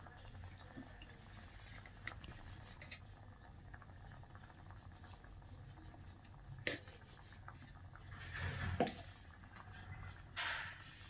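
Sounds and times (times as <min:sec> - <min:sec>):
curry bubbling and popping: 0:00.0 - 0:11.0.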